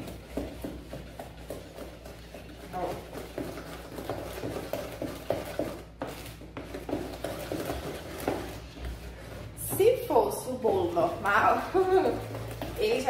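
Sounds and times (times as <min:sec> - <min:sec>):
spoon stirring thick batter: 0:00.0 - 0:13.0.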